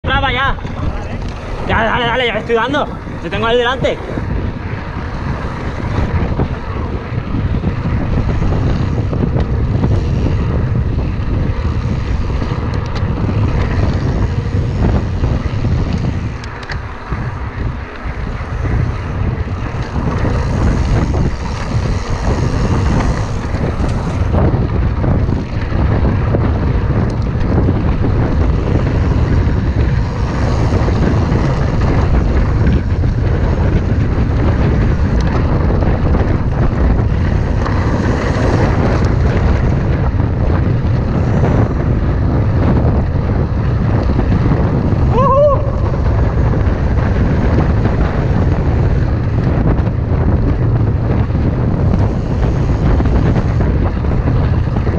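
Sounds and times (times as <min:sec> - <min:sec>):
bike tyre and frame rattle: 0:00.0 - 0:54.9
wind buffeting microphone: 0:00.0 - 0:54.9.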